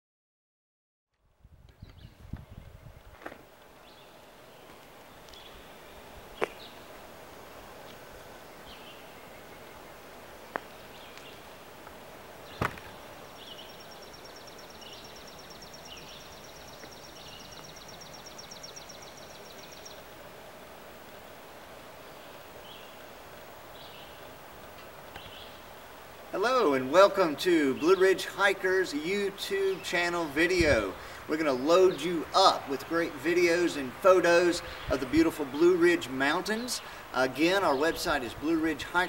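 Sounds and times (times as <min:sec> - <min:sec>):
birds chirping: 0:03.6 - 0:11.7, 0:12.3 - 0:21.0, 0:21.8 - 0:39.0.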